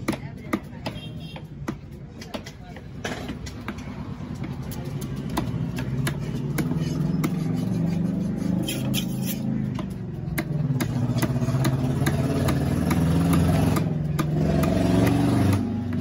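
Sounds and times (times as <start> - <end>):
knife chopping on wooden block: 0.0 - 16.0.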